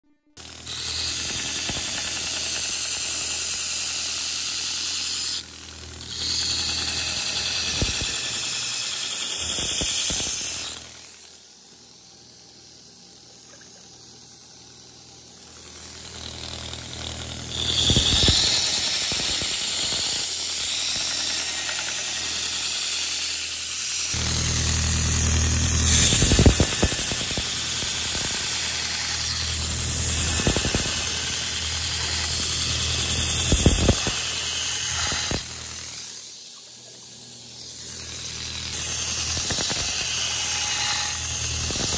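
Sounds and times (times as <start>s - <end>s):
belt grinder grinding steel: 0.4s - 11.6s, 15.3s - 41.9s.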